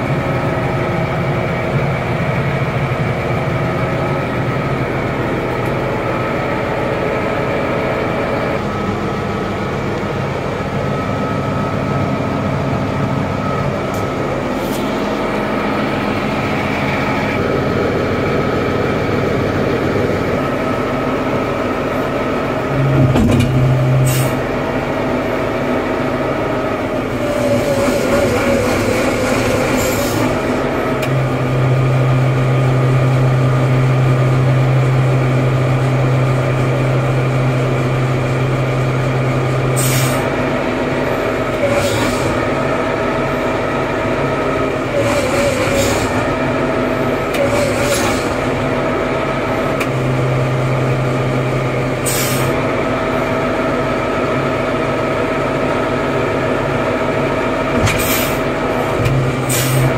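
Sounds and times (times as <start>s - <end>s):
diesel engine running: 0.0s - 59.9s
hydraulics low hum: 0.0s - 59.9s.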